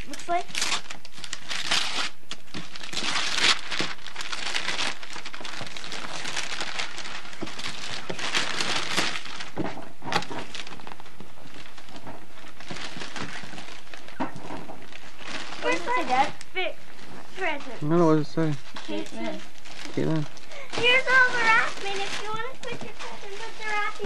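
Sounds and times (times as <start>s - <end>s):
wrapping paper rustling and crinkling: 0.0s - 24.0s.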